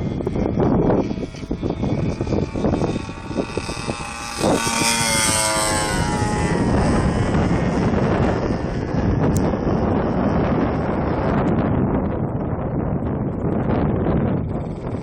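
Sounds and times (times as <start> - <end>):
model plane motor drone: 0.0 - 15.0
wind noise on microphone: 0.0 - 15.0.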